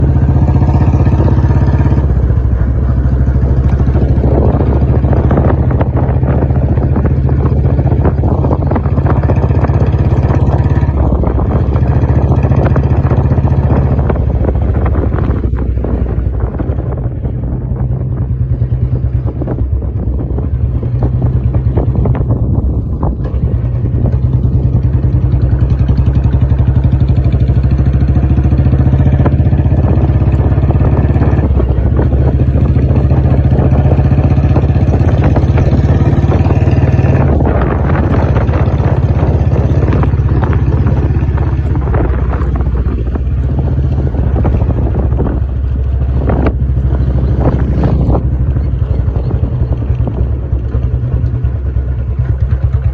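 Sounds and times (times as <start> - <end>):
motorcycle engine exhaust beat: 0.0 - 52.9.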